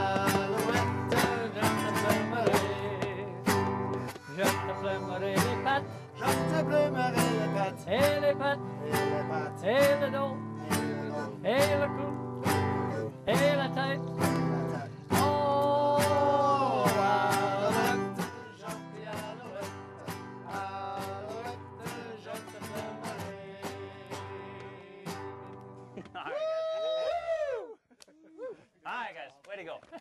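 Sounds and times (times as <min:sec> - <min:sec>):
acoustic guitars strumming: 0:00.0 - 0:26.2.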